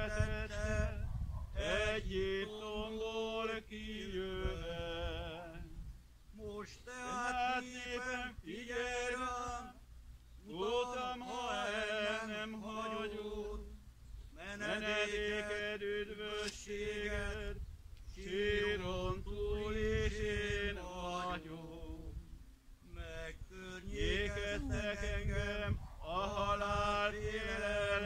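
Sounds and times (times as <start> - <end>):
man chanting unaccompanied: 0.0 - 5.8, 6.4 - 9.8, 10.5 - 13.8, 14.4 - 17.6, 18.2 - 28.0.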